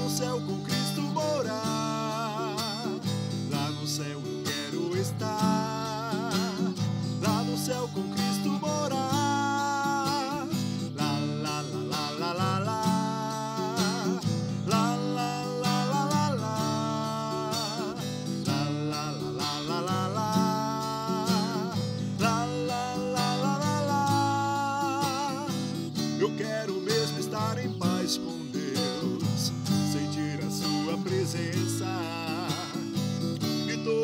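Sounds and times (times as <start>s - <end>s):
acoustic guitar strumming: 0.0s - 34.0s
man singing: 0.0s - 34.0s.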